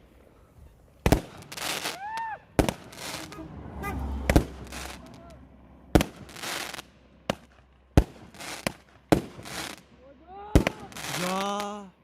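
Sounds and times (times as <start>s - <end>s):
firecrackers banging: 1.0s - 11.8s.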